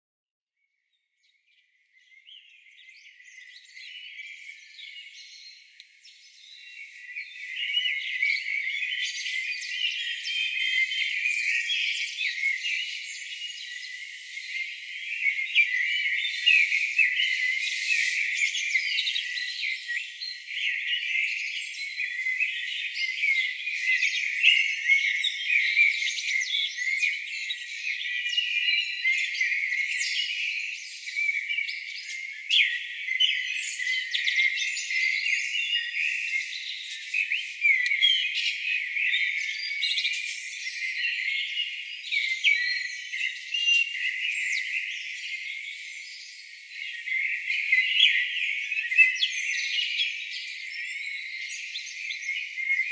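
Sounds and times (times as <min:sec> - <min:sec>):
songbirds chirping and trilling: 0:01.3 - 0:52.9.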